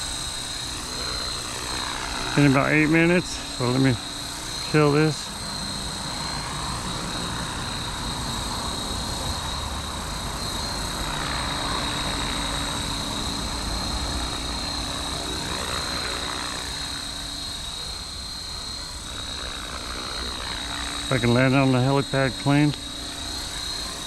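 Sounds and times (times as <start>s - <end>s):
rc helicopter rotor whine: 0.0s - 24.0s.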